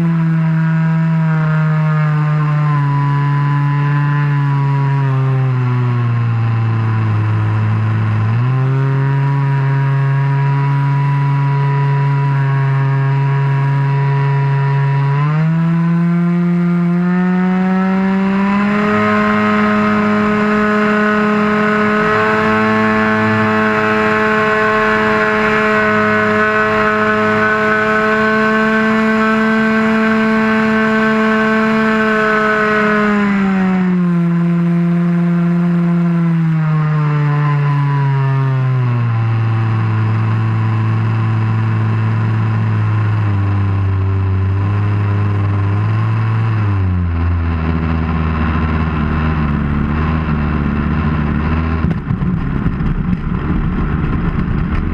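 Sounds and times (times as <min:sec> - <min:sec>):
model airplane engine running: 0:00.0 - 0:54.9.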